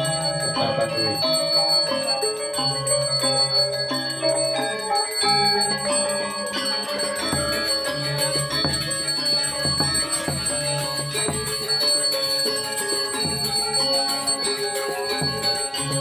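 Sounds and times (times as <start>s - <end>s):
bronze metallophones ringing: 0.0s - 16.0s.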